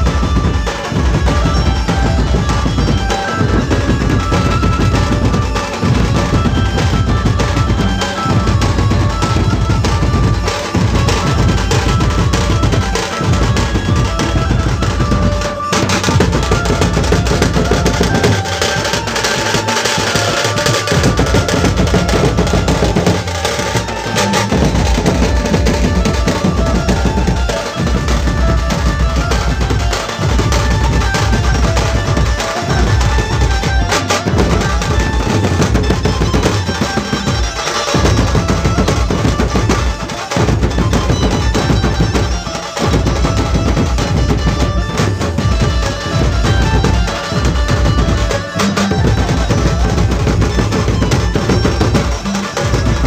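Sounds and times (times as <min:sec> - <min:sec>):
barrel drums beaten fast: 0:00.0 - 0:53.0.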